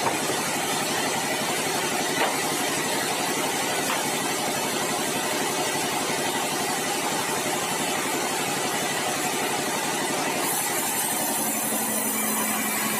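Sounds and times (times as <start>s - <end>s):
sawmill engine running: 0.0s - 12.9s.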